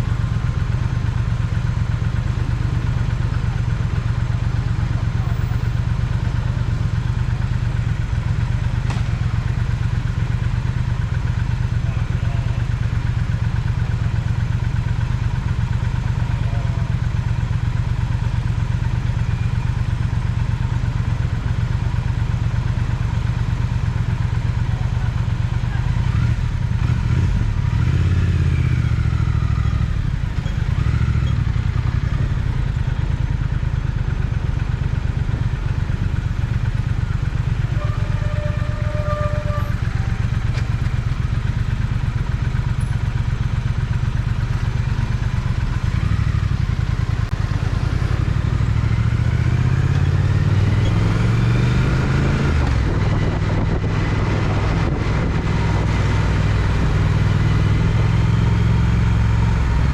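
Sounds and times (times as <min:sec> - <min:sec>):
motorcycle engine rumble: 0:00.0 - 0:59.9.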